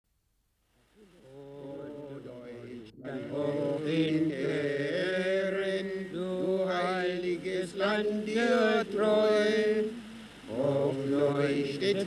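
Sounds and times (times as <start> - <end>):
men singing chant-like song: 1.2 - 12.0.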